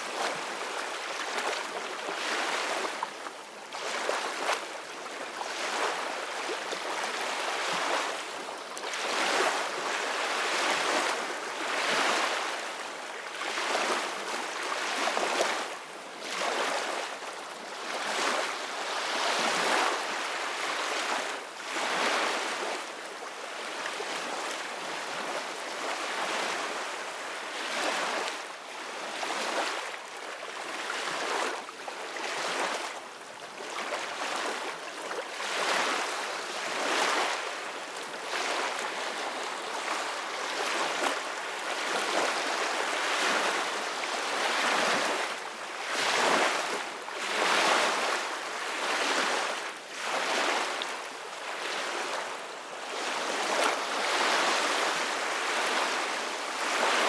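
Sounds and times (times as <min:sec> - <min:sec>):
ocean waves on shore: 0:03.8 - 0:12.6, 0:13.3 - 0:32.9, 0:33.6 - 0:57.0.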